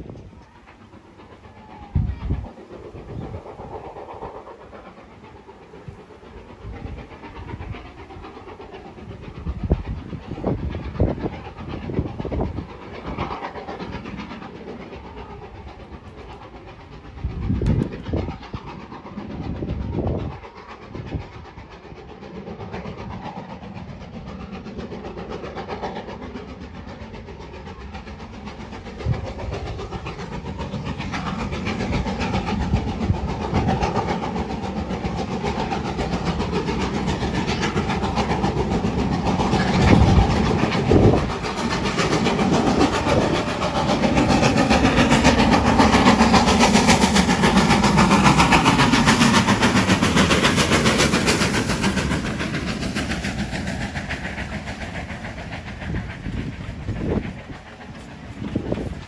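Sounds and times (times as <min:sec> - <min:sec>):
distant train running: 0:00.0 - 0:59.0
wind buffeting microphone: 0:00.0 - 0:59.0.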